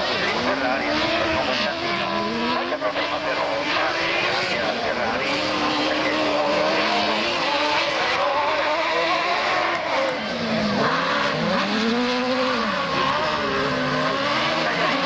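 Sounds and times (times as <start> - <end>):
buggy engines racing: 0.0 - 15.0.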